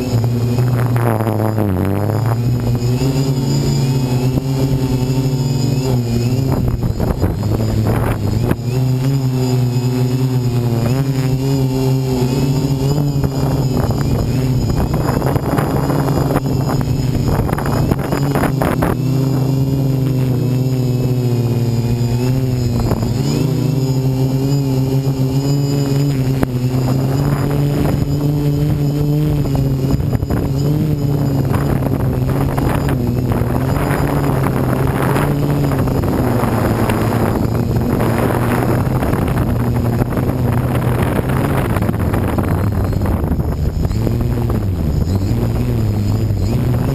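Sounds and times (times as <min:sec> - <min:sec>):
drone propellers whirring: 0:00.0 - 0:46.9
wind on microphone: 0:00.0 - 0:46.9.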